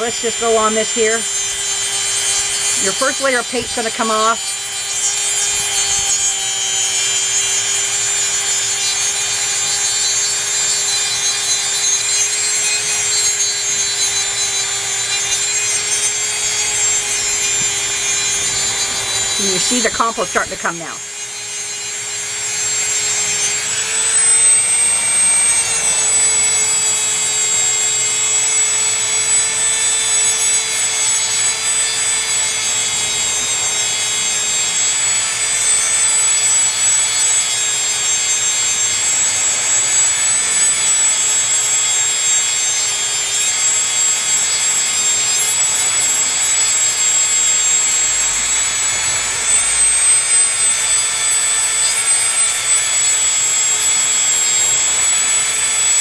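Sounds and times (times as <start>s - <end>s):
rotary tool whining: 0.0s - 56.0s.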